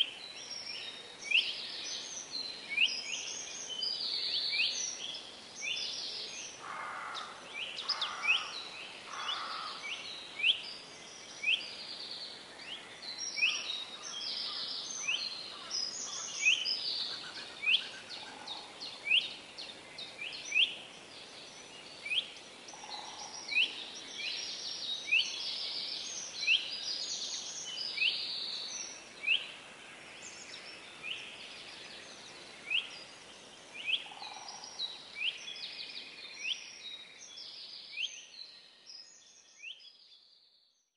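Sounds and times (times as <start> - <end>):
faint steady hiss: 0.0 - 40.6
small birds chirping: 0.0 - 40.9.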